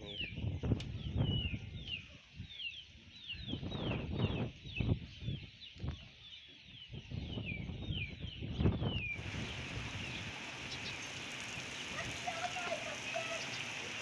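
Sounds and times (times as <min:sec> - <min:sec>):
wind buffeting microphone: 0:00.0 - 0:02.6, 0:03.3 - 0:14.0
small birds chirping: 0:00.0 - 0:14.0.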